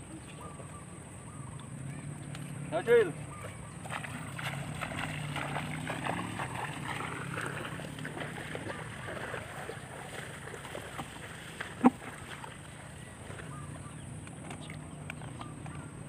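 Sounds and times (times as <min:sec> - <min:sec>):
bare feet splashing in mud: 0:01.6 - 0:16.0.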